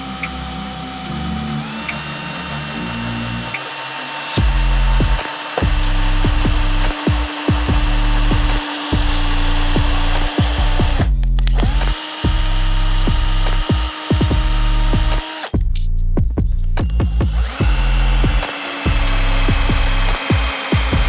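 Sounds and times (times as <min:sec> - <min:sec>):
power tool motor running: 0:00.0 - 0:15.6, 0:16.8 - 0:21.0
rhythmic music with steady beat: 0:01.7 - 0:21.0.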